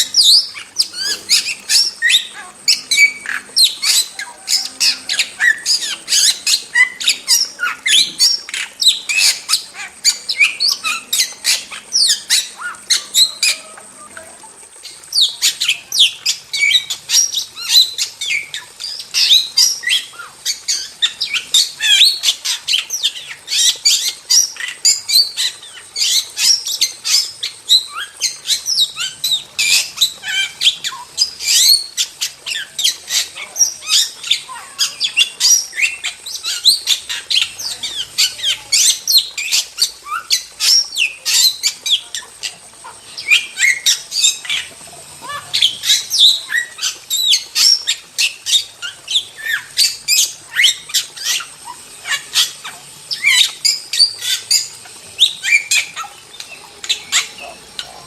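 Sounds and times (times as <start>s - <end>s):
starling chirps and whistles: 0.0s - 13.9s, 14.8s - 58.0s.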